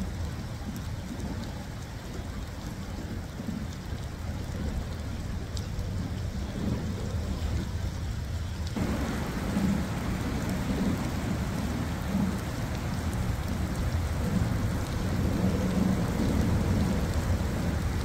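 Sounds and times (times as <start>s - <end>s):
rain falling on a river: 0.0s - 18.0s.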